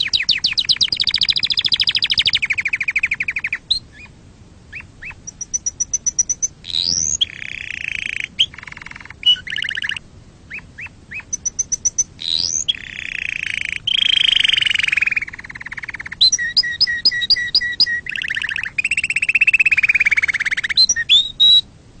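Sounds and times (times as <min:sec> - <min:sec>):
canary singing: 0:00.0 - 0:21.7.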